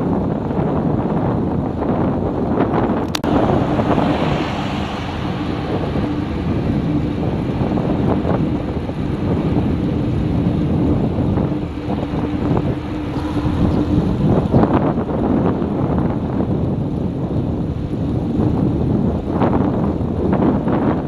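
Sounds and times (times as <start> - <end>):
road and traffic noise: 0.0 - 21.0
wind rumble on microphone: 0.0 - 21.0.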